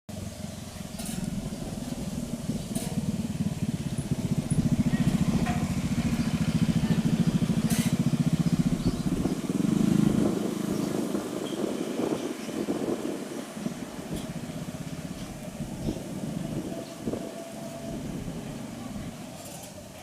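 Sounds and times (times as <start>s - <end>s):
turboprop engines droning: 0.1s - 20.0s.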